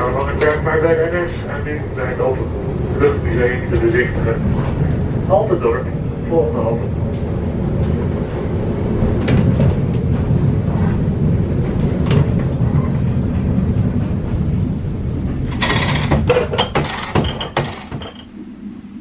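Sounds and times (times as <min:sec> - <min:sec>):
tram rumbling along track: 0:00.0 - 0:19.0.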